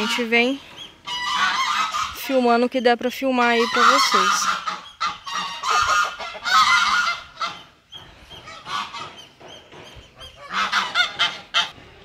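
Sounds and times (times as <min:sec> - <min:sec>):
geese honking: 0:00.0 - 0:02.6, 0:03.2 - 0:09.4, 0:10.1 - 0:11.8.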